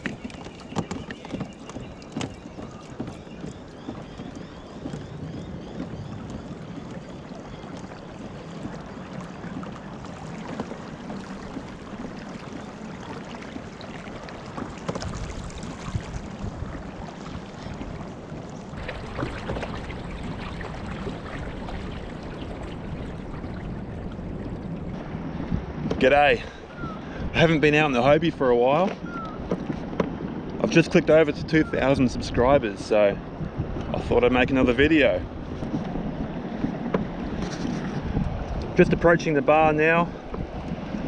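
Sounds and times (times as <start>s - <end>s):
water trickling along a hull: 0.0s - 41.0s.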